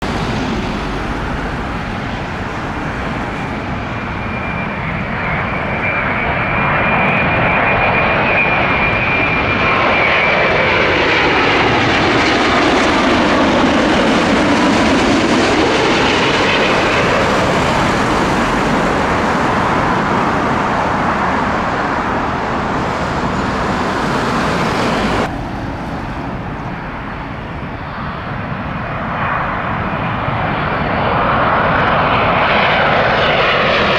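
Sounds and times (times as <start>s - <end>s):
jet airliner passing: 0.0s - 33.9s.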